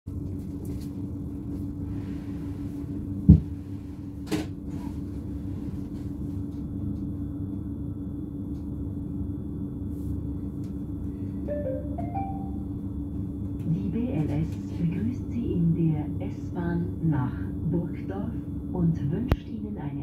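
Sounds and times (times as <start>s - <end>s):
electric train low hum: 0.1s - 20.0s.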